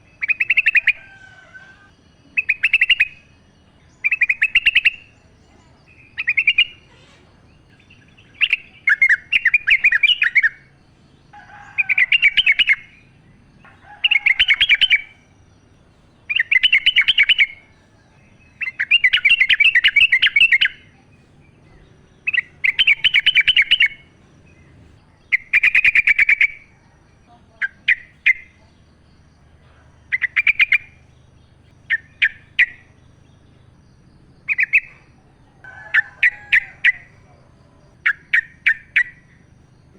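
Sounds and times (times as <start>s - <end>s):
bird singing bubbly phrases: 0.0s - 1.0s, 1.9s - 11.1s, 11.8s - 13.2s, 14.0s - 35.4s.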